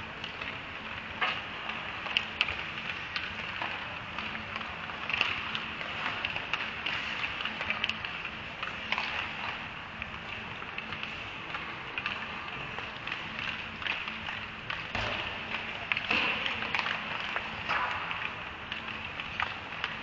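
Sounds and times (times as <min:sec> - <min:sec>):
hockey sticks and puck clacking: 0:00.0 - 0:20.0
skate blades on ice: 0:00.0 - 0:20.0.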